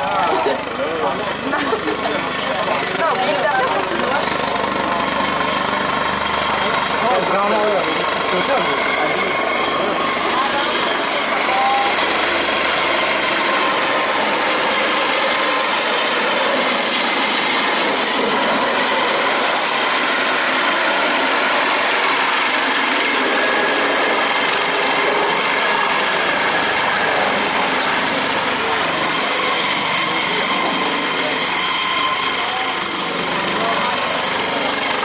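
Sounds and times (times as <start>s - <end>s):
helicopter rotor and turbine: 0.0s - 35.0s.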